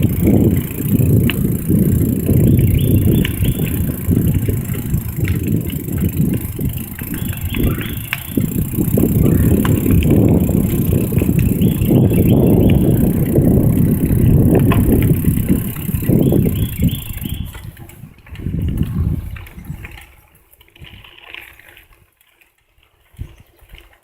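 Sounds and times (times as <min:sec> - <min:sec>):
wind on microphone: 0:00.0 - 0:21.2
bicycle tyres rumbling on trail: 0:00.0 - 0:24.0
bike clicks and rattles: 0:00.0 - 0:24.0.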